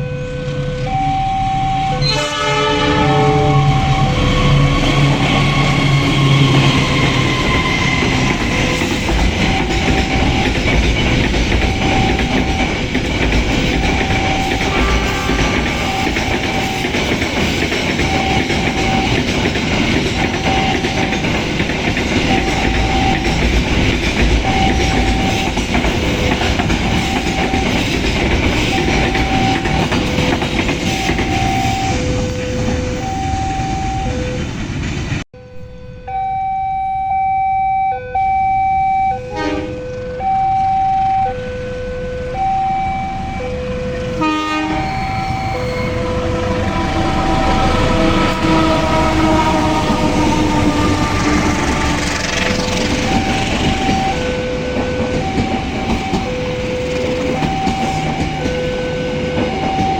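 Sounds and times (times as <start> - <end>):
train rumbling past: 0.0 - 37.0, 41.4 - 59.9
two-tone crossing alarm: 0.0 - 59.9.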